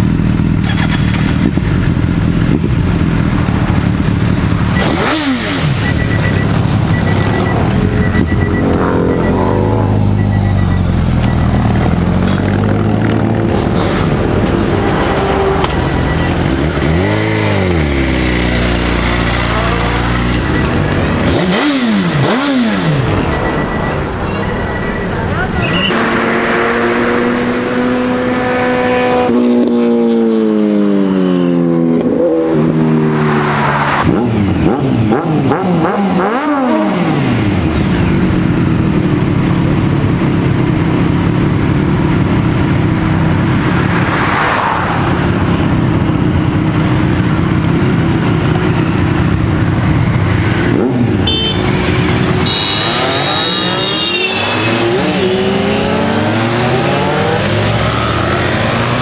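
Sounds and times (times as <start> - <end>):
motorcycles revving and passing: 0.0 - 59.0.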